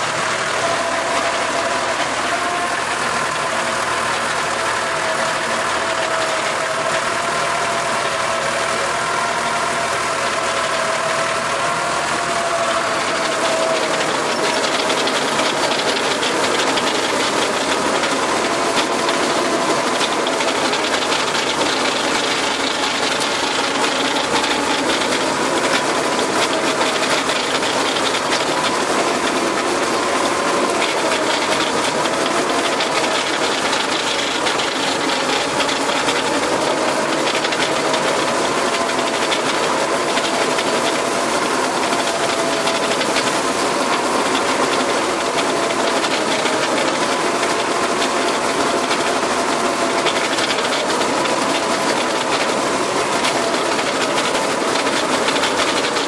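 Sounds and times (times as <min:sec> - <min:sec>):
rotary tiller churning soil: 0:00.0 - 0:56.0
tractor engine running under load: 0:00.0 - 0:56.0.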